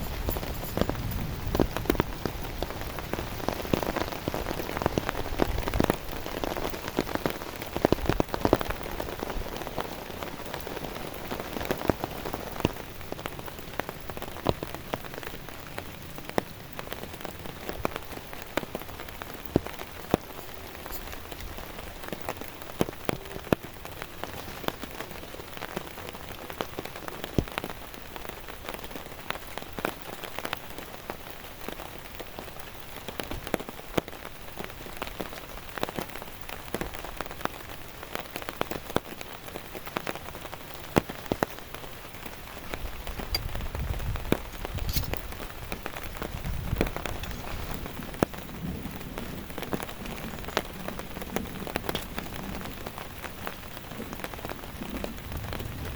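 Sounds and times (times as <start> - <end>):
heavy rain on a surface: 0.0 - 55.9.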